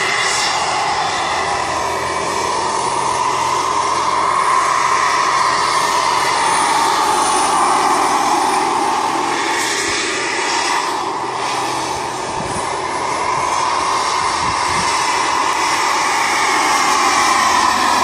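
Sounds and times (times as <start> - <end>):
model helicopter engine and rotor whine: 0.0 - 18.0.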